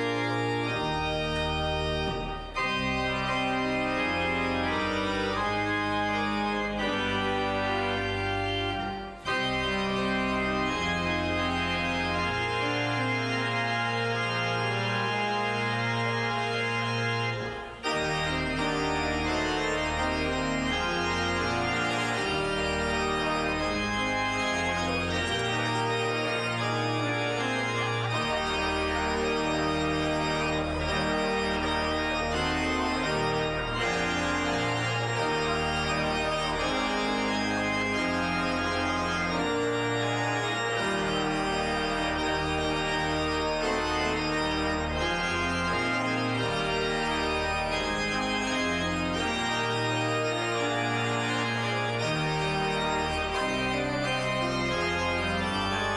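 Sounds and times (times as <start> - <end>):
church organ playing chords: 0.0 - 55.9.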